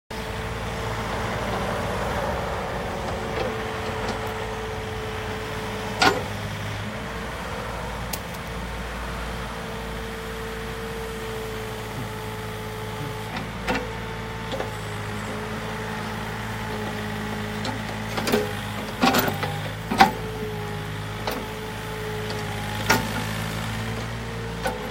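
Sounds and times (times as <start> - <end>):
diesel engine running: 0.1 - 24.9.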